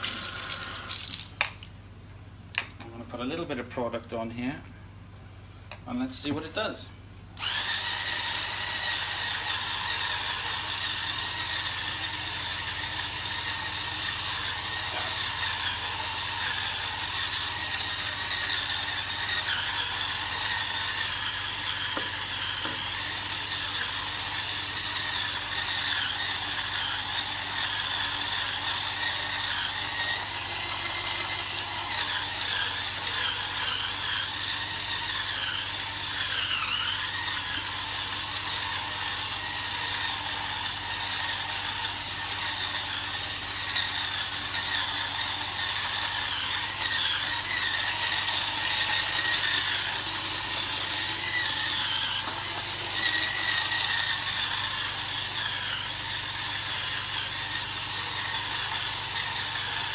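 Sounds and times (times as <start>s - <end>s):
scrubber motor whine: 0.0s - 1.2s, 7.4s - 59.9s.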